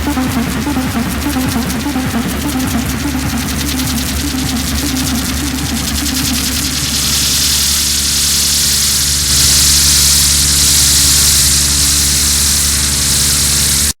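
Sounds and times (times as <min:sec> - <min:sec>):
low synthesizer drone: 0:00.0 - 0:13.9
white-noise hiss: 0:00.0 - 0:13.9.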